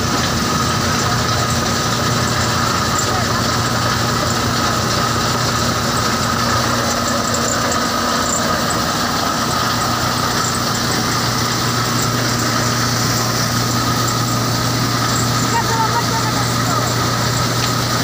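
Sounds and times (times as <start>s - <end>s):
thresher drum whirring: 0.0s - 18.0s
tractor engine drone: 0.0s - 18.0s.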